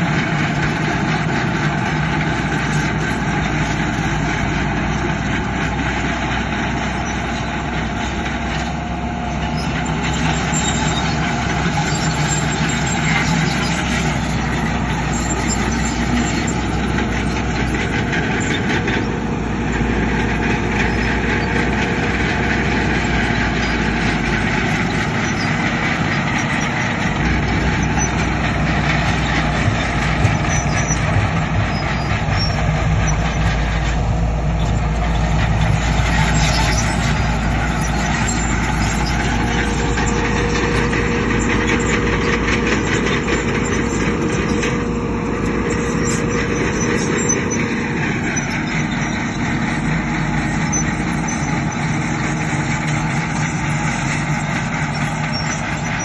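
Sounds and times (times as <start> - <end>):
bulldozer running: 0.0 - 56.0
dump trucks running: 0.0 - 56.0.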